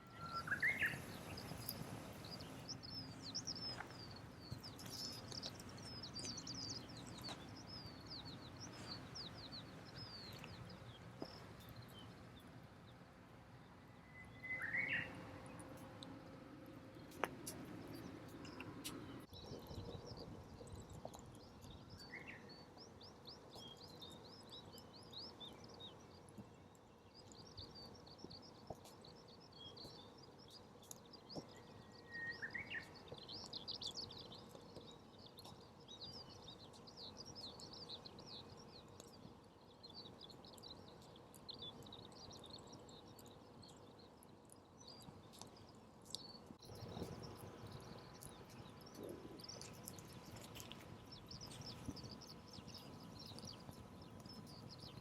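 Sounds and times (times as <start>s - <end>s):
small birds twittering: 0.0s - 55.0s.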